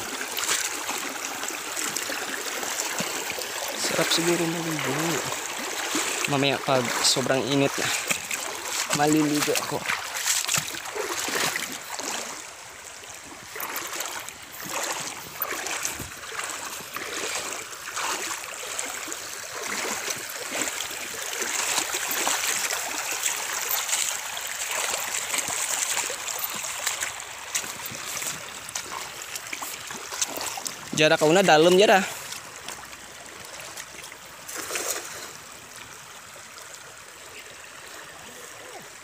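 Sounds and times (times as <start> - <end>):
stream rushing: 0.0 - 39.0
water sloshing from wading steps: 0.0 - 39.0.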